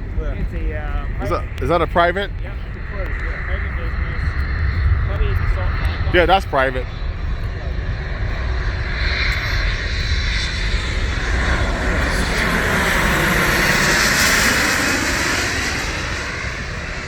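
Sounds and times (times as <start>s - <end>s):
jet passing overhead: 0.0s - 17.0s.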